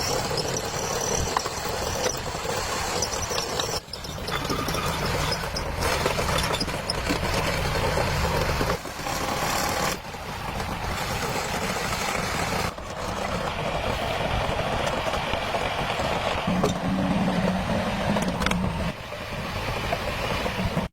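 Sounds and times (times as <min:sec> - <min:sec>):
excavator engine running: 0:00.0 - 0:20.9.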